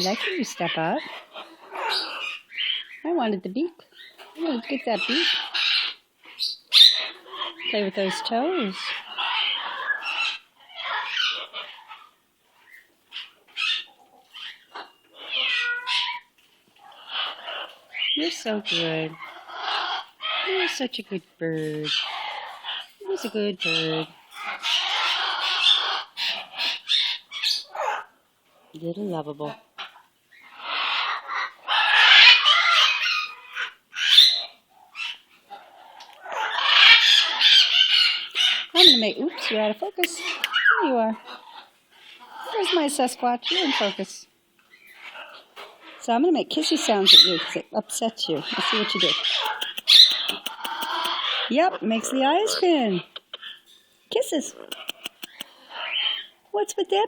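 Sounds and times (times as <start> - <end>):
parrot squawking: 0.0 - 3.0, 4.0 - 16.3, 16.9 - 20.8, 21.8 - 28.1, 29.8 - 57.0.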